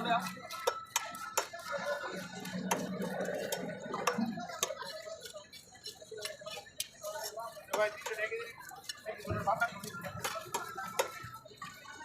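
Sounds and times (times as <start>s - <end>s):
market chatter: 0.0s - 12.0s.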